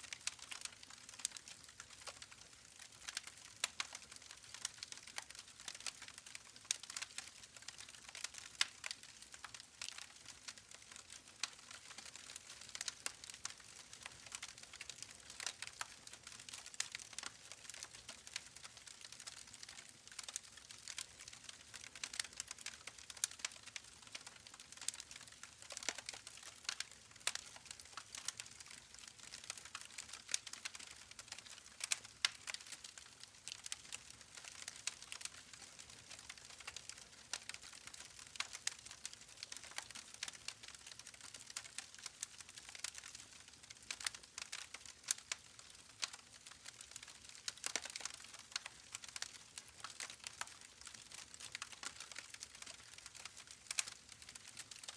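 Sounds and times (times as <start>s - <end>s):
campfire crackling: 0.1s - 54.9s.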